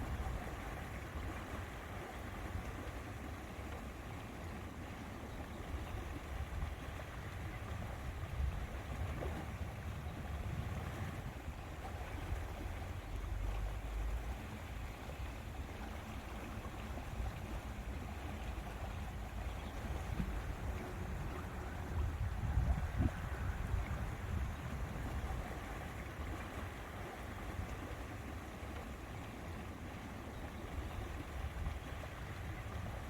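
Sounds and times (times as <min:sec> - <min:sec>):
wind rumble on microphone: 0:00.0 - 0:02.9, 0:05.4 - 0:28.1, 0:30.4 - 0:33.0
water lapping against shore: 0:00.0 - 0:33.0.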